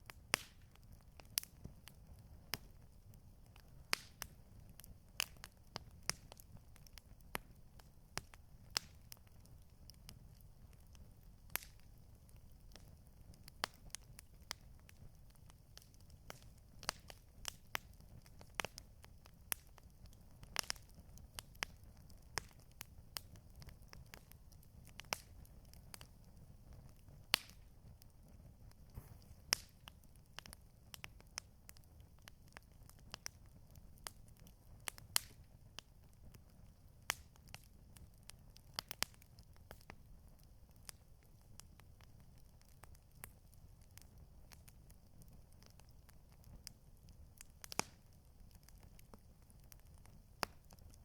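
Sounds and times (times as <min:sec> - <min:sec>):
campfire crackling: 0:00.0 - 0:51.0.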